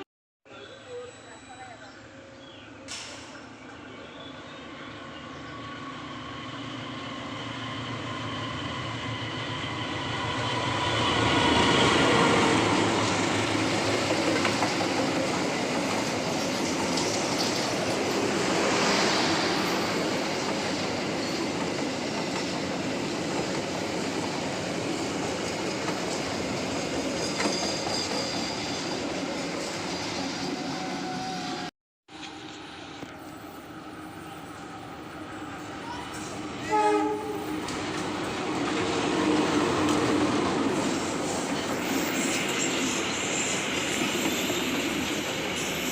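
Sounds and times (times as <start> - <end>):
train passing close by: 0.6 - 45.9.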